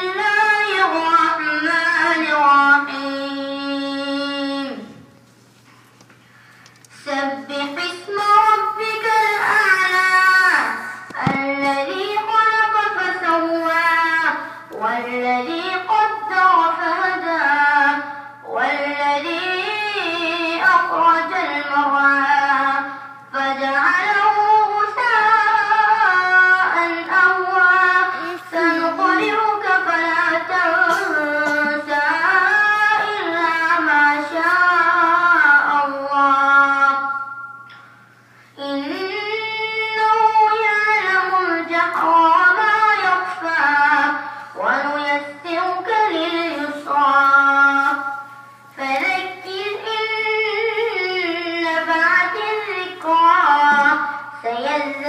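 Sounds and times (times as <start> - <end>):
person reciting melodically: 0.0 - 5.2, 6.9 - 38.0, 38.6 - 55.0.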